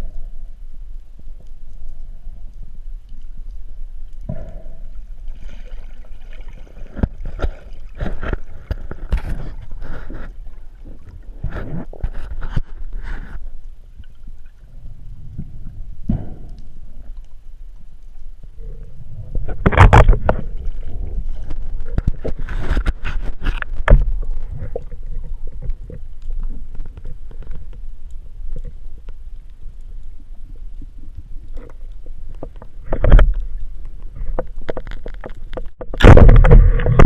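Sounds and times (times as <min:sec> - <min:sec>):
underwater rumble: 0:00.0 - 0:37.0
gurgling and knocking underwater: 0:04.2 - 0:17.6, 0:18.4 - 0:29.2, 0:30.8 - 0:37.0.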